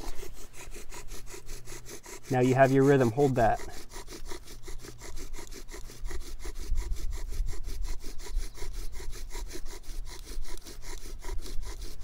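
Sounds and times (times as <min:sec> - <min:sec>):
wood rasping on wood: 0:00.0 - 0:12.0.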